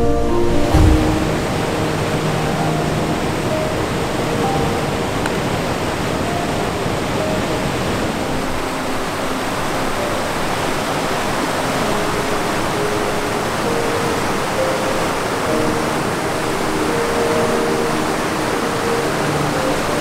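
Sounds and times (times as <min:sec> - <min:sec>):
creek water rushing over rapids: 0:00.0 - 0:20.0.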